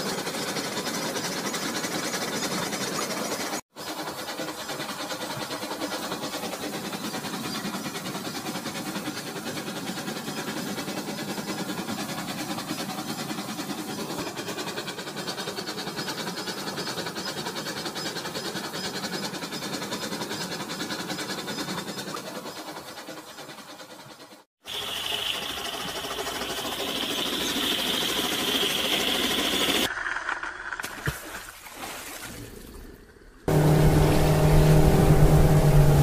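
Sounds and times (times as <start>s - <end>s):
toy train motor whirring: 0.0s - 30.8s
toy train wheels clicking: 0.0s - 30.8s.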